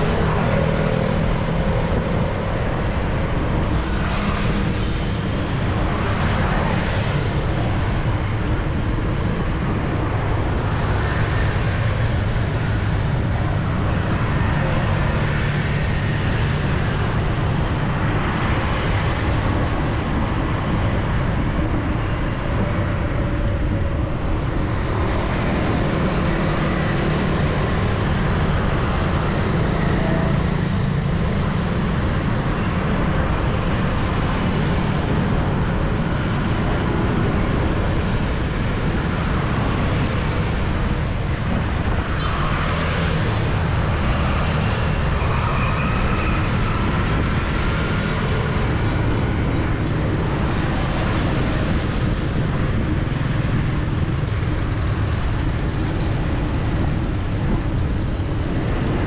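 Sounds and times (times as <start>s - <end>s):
city street traffic: 0.0s - 59.0s
vehicles passing: 0.0s - 59.0s.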